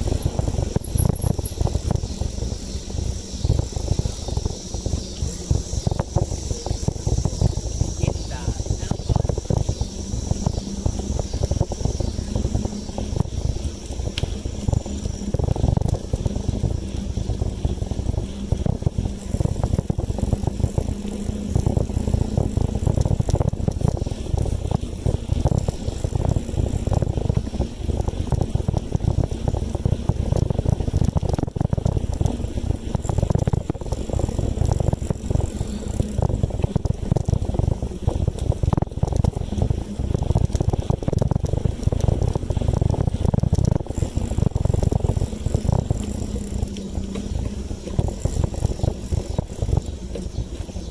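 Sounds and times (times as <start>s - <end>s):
bicycle tyre road noise: 0.0s - 50.9s
wind buffeting microphone: 0.0s - 50.9s.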